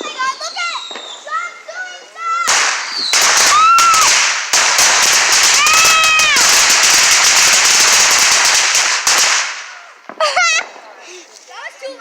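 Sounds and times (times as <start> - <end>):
firework crackling pops: 0.0 - 11.5.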